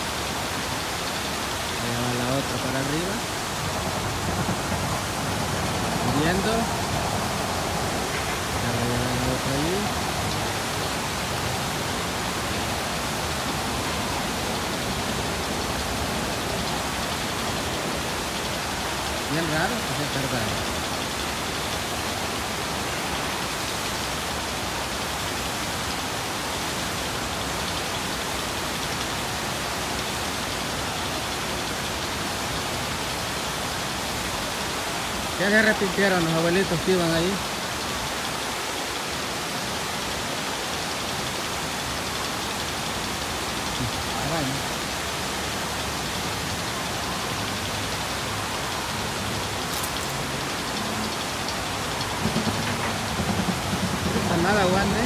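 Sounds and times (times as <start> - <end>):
water rushing down a chute: 0.0 - 55.0.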